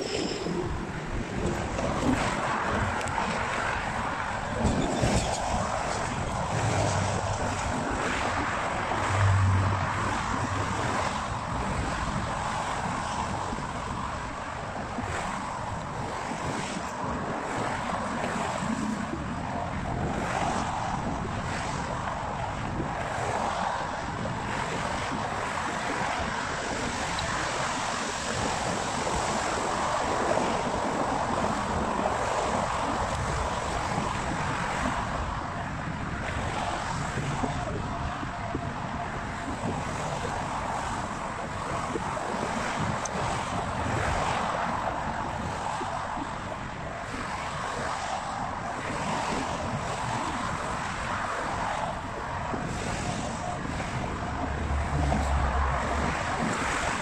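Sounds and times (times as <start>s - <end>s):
road traffic drone: 0.0s - 57.0s
wind on microphone: 0.0s - 57.0s.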